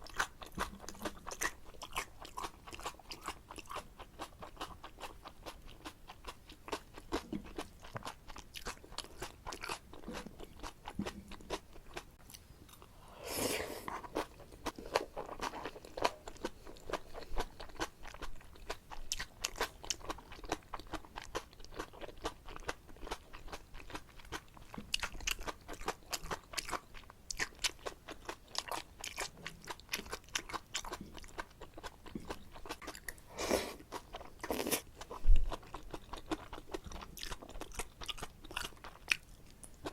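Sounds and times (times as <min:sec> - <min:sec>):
close chewing of noodles: 0:00.0 - 0:39.9.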